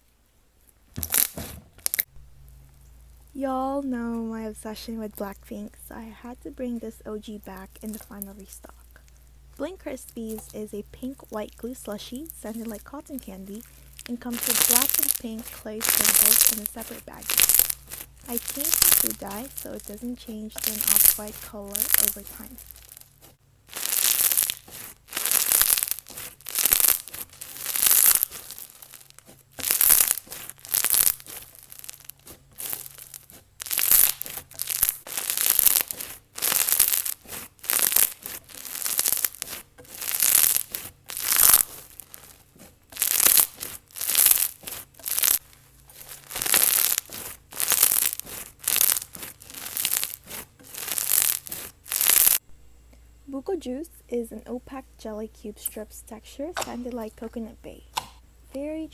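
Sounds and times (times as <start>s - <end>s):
slime squishing: 0.7s - 52.4s.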